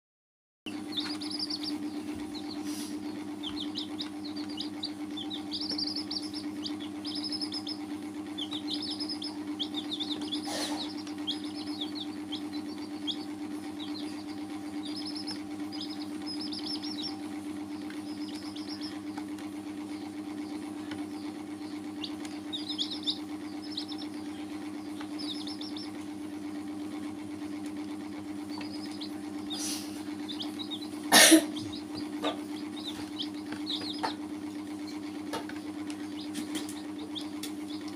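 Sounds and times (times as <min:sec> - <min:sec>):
chicks peeping: 0:00.7 - 0:37.9
steady low hum: 0:00.7 - 0:37.9.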